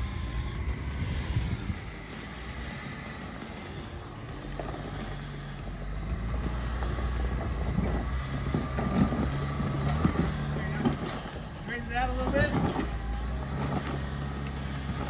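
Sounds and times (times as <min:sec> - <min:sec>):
engine running at low revs: 0:00.0 - 0:15.0
tyres crunching on rock: 0:00.0 - 0:15.0.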